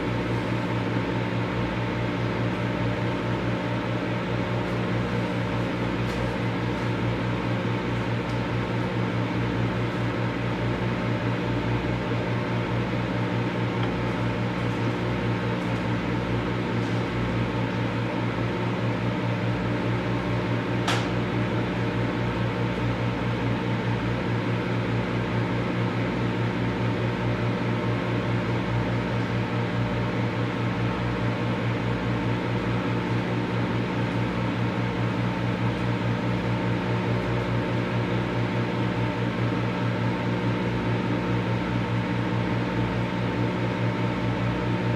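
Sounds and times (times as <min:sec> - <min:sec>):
microwave fan whirring: 0:00.0 - 0:44.9
microwave oven humming: 0:00.0 - 0:44.9.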